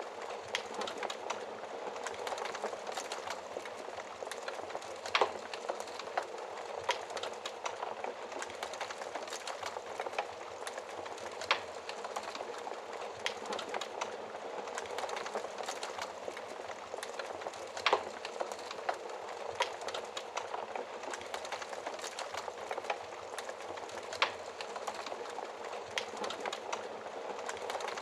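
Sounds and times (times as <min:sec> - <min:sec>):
fireplace fire crackling: 0:00.0 - 0:28.0
fire popping: 0:00.2 - 0:28.0.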